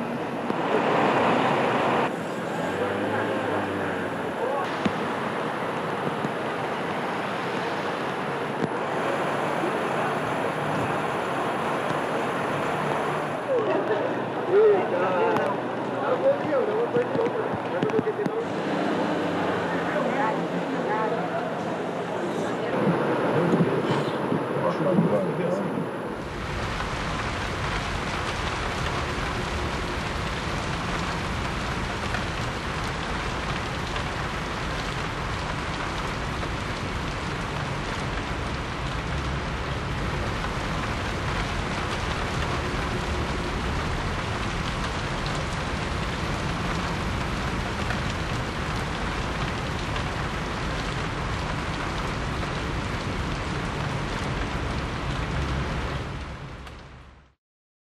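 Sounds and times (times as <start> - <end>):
heavy rain pouring: 0.0 - 57.4.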